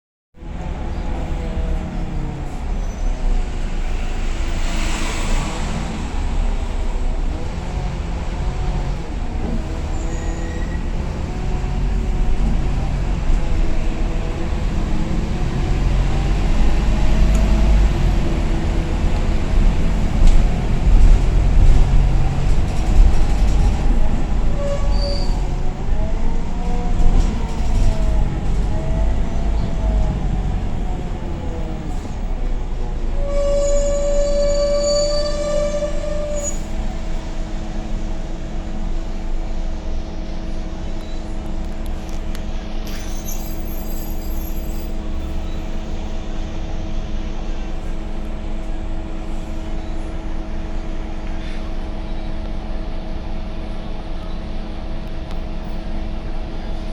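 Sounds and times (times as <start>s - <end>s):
bus engine rumble: 0.4s - 56.9s.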